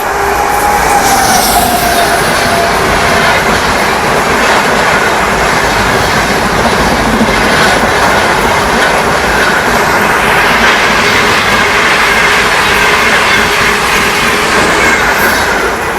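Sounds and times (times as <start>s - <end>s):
train wheels rushing on rails: 0.0s - 15.9s.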